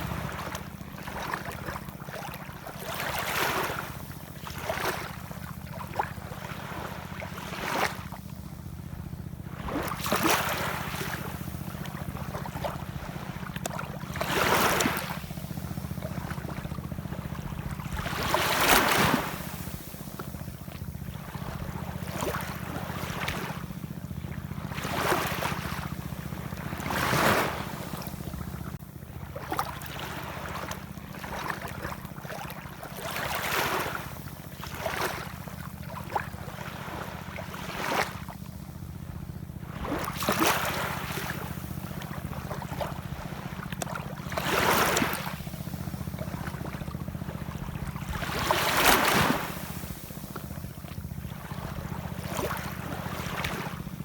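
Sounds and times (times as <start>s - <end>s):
ocean waves washing in: 0.0s - 39.0s, 39.6s - 54.0s.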